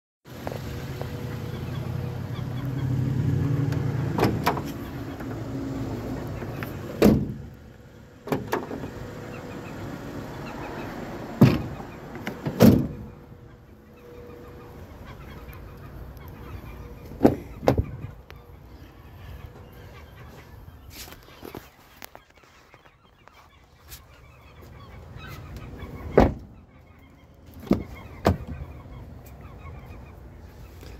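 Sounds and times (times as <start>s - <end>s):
vehicle rumbling: 0.3s - 30.9s.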